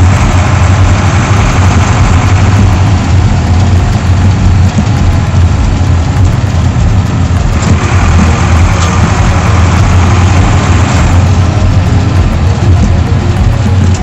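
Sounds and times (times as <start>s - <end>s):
diesel bus engine droning: 0.0s - 14.0s
rushing noise: 0.0s - 14.0s.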